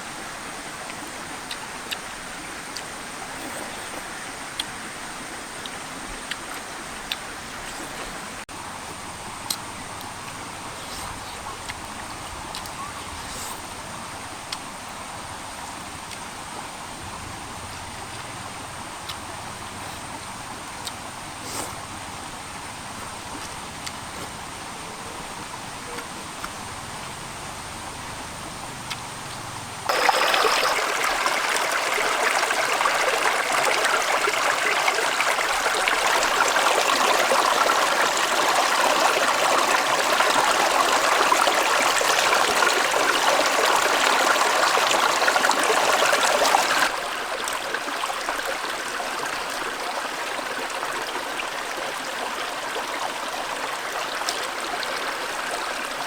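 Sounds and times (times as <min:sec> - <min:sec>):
stream water rushing: 0:00.0 - 0:26.8, 0:29.7 - 0:56.0.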